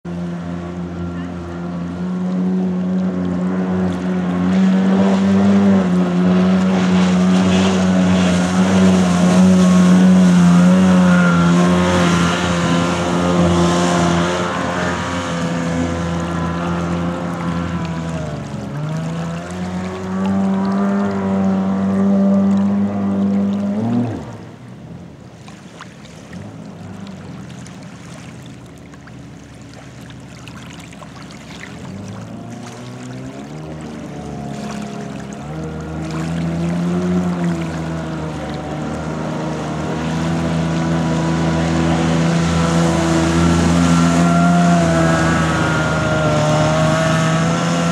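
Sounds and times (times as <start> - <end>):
high-revving jet boat engine: 0.0 - 47.9
wind: 0.0 - 47.9.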